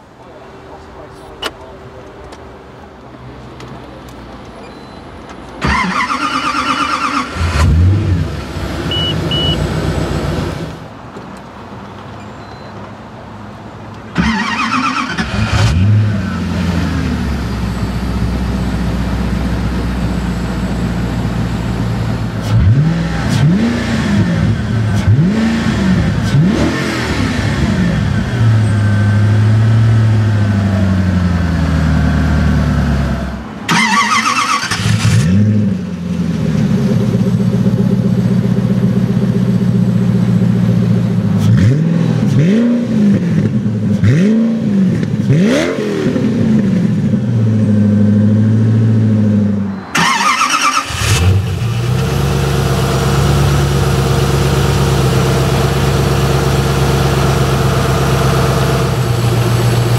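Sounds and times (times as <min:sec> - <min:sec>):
car engine starting and revving: 0:05.6 - 0:10.9, 0:14.1 - 0:59.9.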